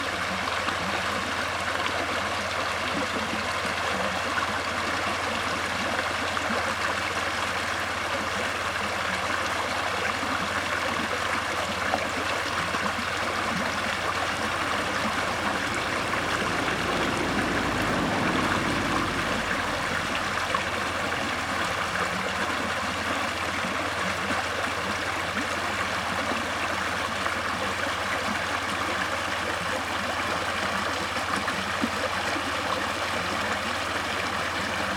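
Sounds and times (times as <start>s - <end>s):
water rushing and gurgling: 0.0s - 34.9s.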